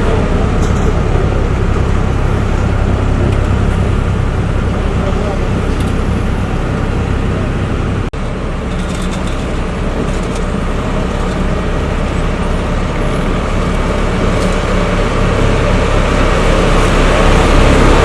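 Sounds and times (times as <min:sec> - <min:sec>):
heavy diesel engines running: 0:00.0 - 0:18.0.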